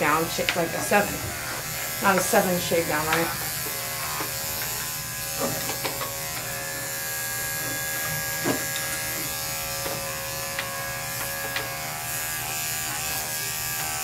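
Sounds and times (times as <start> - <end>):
electric clippers humming: 0.0 - 14.0.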